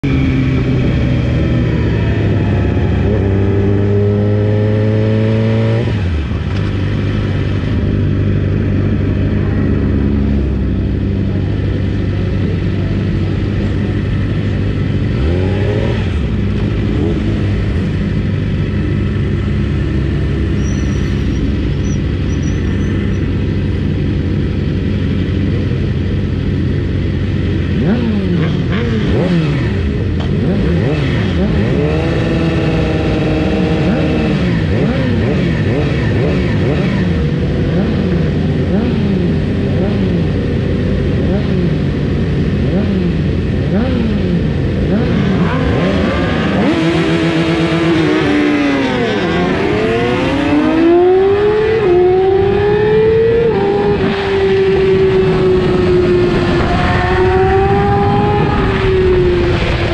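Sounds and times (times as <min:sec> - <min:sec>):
motorcycle engine running: 0:00.0 - 0:59.9
other motorcycles revving: 0:00.0 - 0:59.9.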